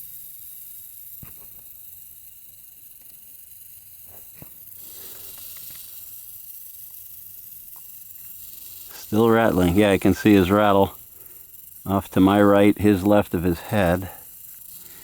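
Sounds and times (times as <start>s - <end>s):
rattlesnake rattling: 0.0s - 15.0s.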